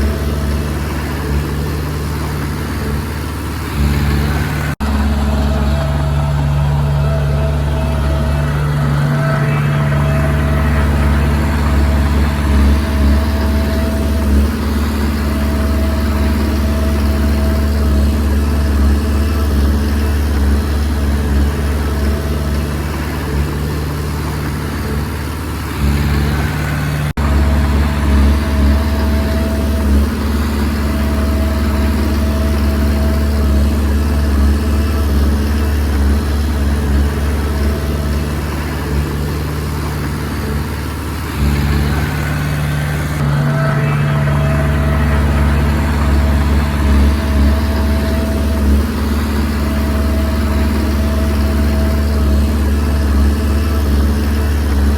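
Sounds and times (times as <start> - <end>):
bulldozer diesel engine running: 0.0 - 54.9
high-pitched whine: 0.0 - 54.9.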